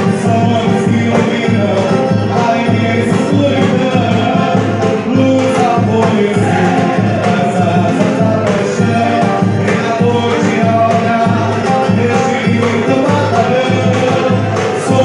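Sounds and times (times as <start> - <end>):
drums and hand percussion: 0.0 - 15.0
group singing: 0.0 - 15.0.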